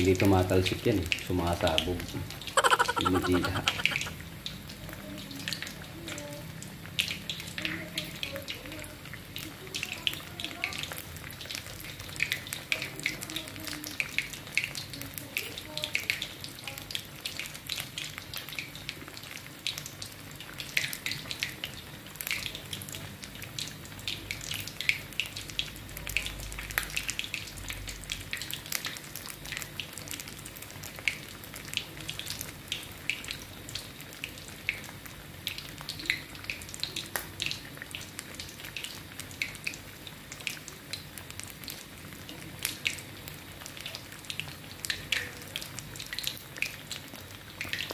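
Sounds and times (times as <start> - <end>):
meat sizzling in hot oil: 4.5 - 47.9.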